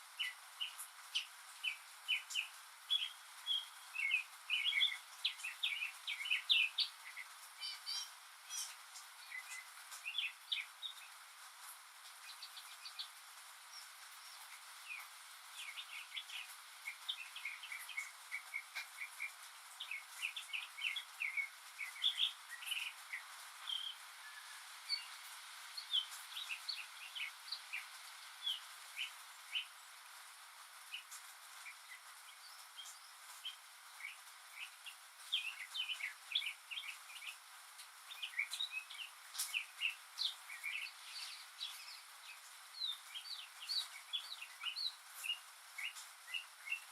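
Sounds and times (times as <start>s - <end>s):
steady background hiss: 0.0s - 46.9s
mockingbird singing: 0.1s - 11.2s, 13.8s - 29.8s, 31.7s - 37.5s, 38.1s - 46.9s.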